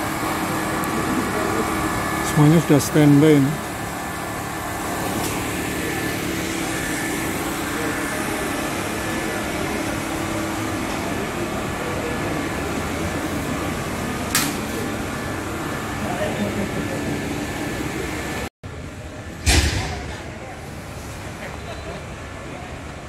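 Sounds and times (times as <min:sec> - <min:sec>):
mechanical hum with faint hiss: 0:00.0 - 0:23.0.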